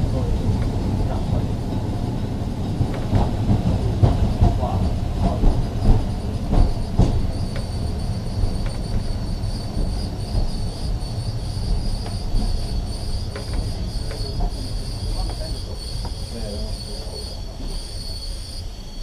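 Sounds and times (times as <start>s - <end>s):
tram knocks: 0.0s - 18.6s
tram wheels rumbling on track: 0.0s - 19.0s
high-pitched wheel squeal: 2.6s - 19.0s.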